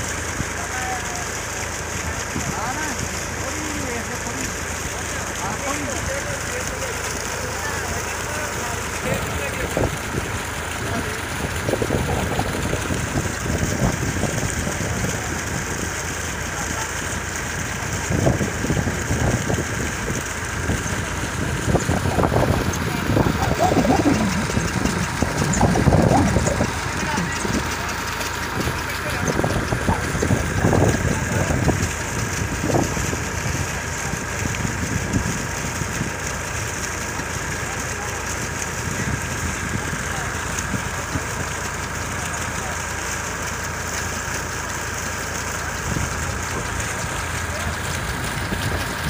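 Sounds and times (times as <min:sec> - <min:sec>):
diesel engine driving pump: 0:00.0 - 0:49.0.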